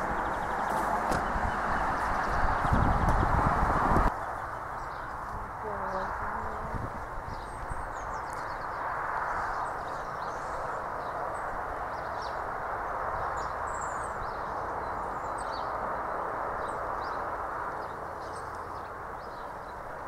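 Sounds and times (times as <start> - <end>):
steady rushing noise: 0.0 - 18.2
small birds chirping: 0.0 - 20.0.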